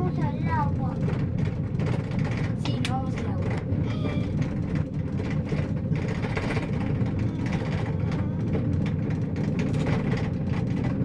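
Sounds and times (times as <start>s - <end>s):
cable car cabin rumble: 0.0s - 11.0s.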